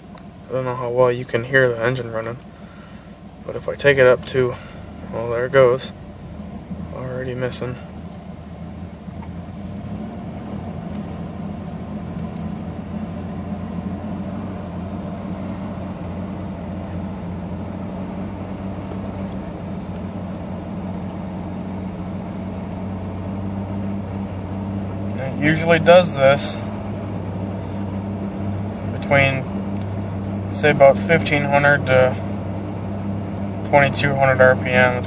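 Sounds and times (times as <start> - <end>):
car engine running with a misfire: 0.0 - 35.0.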